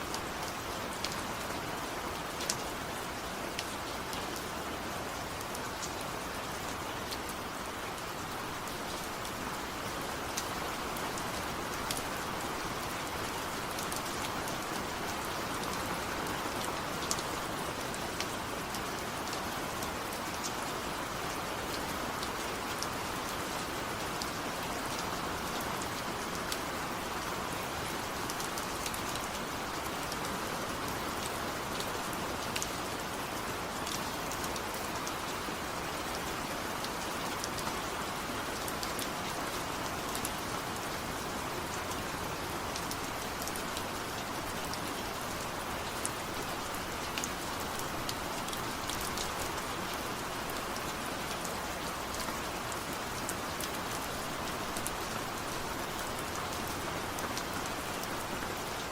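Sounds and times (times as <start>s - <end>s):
raindrops ticking on a surface: 0.0s - 58.9s
steady rain hiss: 0.0s - 58.9s.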